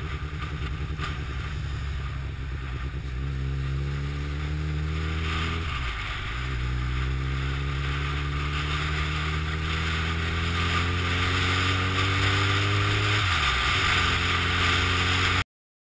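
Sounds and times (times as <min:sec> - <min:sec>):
motorcycle engine accelerating: 0:00.0 - 0:15.4
wind rushing over microphone: 0:00.0 - 0:15.4.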